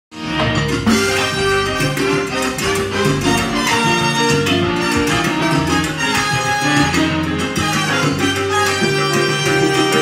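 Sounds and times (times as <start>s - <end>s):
salsa band playing: 0.1s - 10.0s.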